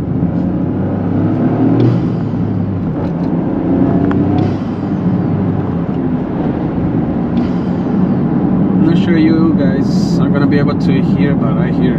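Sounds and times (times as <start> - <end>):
car engine drone: 0.0 - 11.9
road rumble: 0.0 - 11.9.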